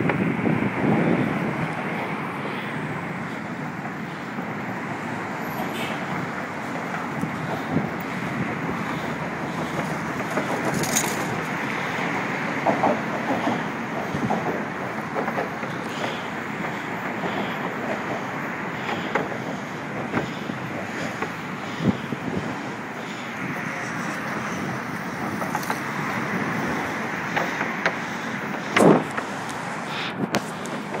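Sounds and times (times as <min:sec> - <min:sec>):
car road and engine noise: 0:00.0 - 0:31.0.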